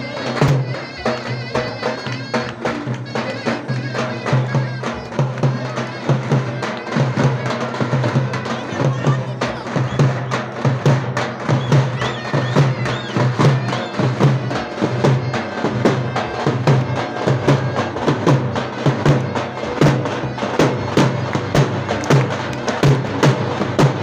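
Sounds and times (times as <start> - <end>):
bass drum beating a rhythm: 0.0 - 24.0
shawm playing a melody: 0.0 - 24.0.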